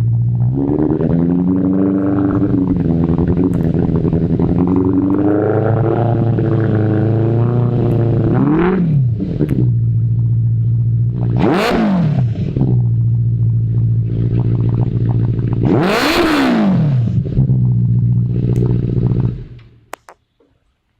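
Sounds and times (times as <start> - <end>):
motorcycle engine idling and revving: 0.0 - 20.1.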